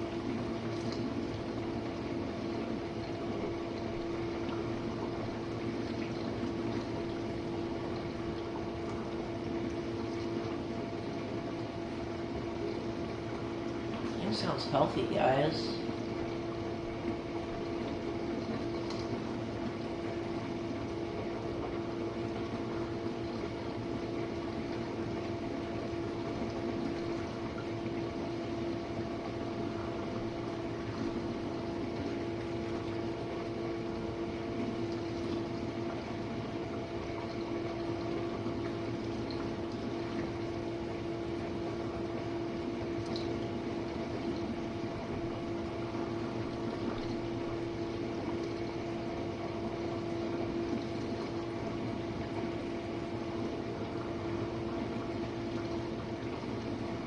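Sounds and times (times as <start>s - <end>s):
dishwasher pump hum: 0.0s - 57.0s
water swishing in dishwasher: 0.0s - 57.0s.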